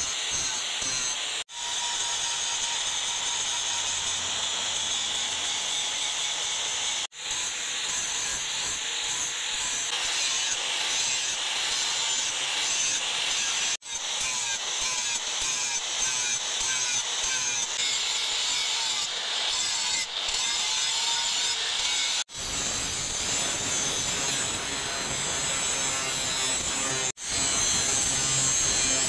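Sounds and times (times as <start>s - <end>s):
angle grinder grinding steel: 0.0s - 29.0s.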